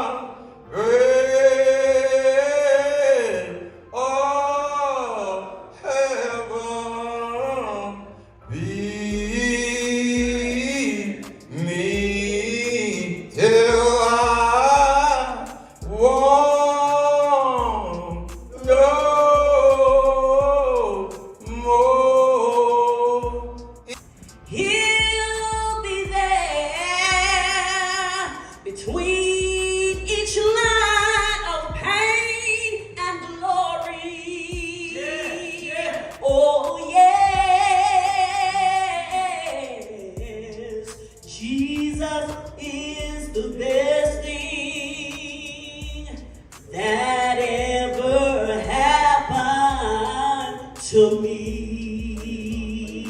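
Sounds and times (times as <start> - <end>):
person singing gospel: 0.0 - 53.0
low bass accompaniment: 6.5 - 53.0.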